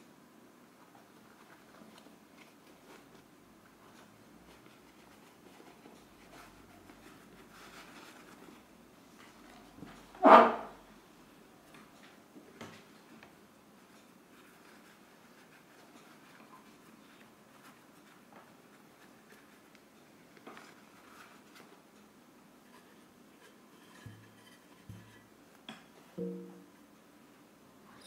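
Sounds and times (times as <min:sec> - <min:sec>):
faint rustling of gloved hands: 0:00.7 - 0:10.1, 0:11.7 - 0:25.4.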